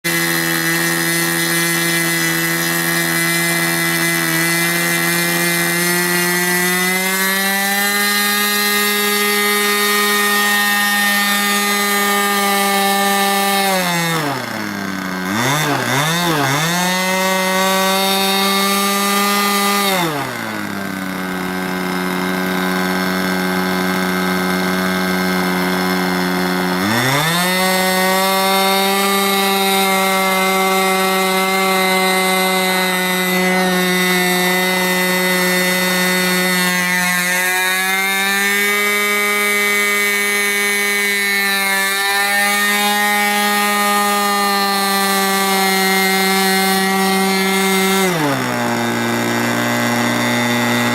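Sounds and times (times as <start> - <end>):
model airplane engine: 0.0 - 50.9.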